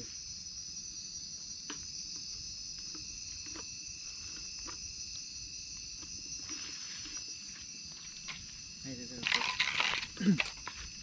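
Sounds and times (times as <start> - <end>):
crickets and insects trilling: 0.0 - 11.0.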